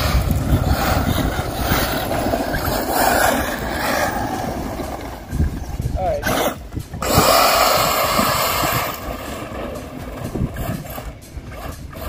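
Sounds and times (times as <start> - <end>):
electric motors running: 0.0 - 12.0
tyres scrabbling over loose dirt: 0.0 - 12.0.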